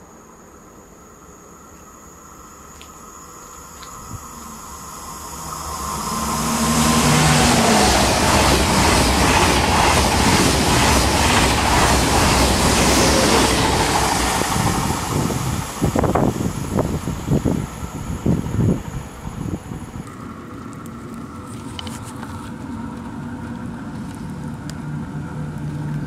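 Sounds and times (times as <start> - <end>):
high-speed train passing: 3.0 - 26.0.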